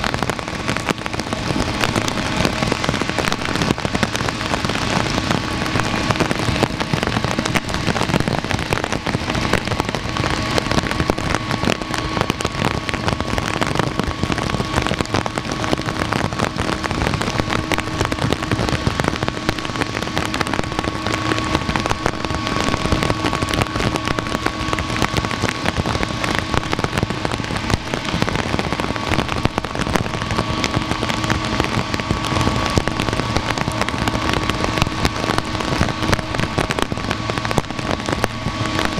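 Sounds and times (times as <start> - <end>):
faint jet engines whining: 0.0 - 38.9
heavy rain falling: 0.0 - 38.9.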